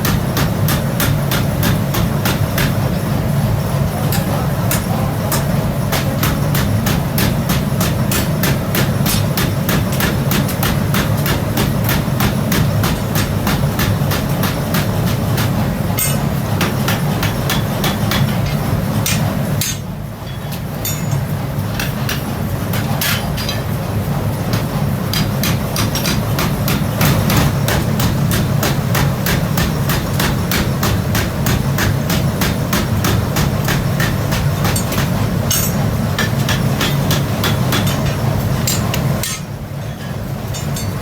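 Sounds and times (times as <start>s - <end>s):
steady low hum: 0.0s - 41.0s
hammer striking metal: 4.1s - 23.8s, 24.5s - 41.0s.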